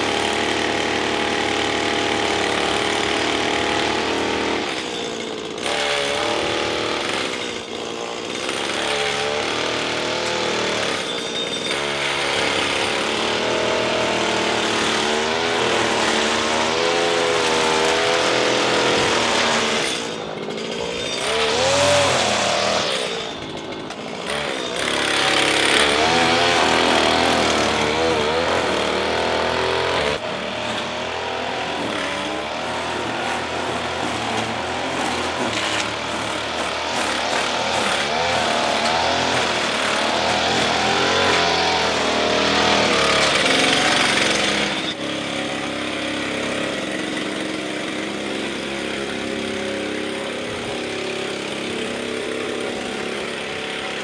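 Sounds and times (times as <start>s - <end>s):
string trimmer cutting grass: 0.0s - 54.0s.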